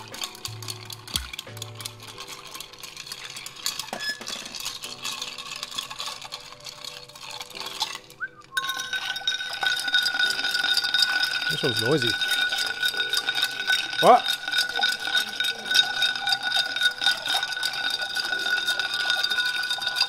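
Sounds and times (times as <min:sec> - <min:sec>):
ice rattling in a stirred glass: 0:00.0 - 0:20.0
soft background music: 0:00.0 - 0:20.0.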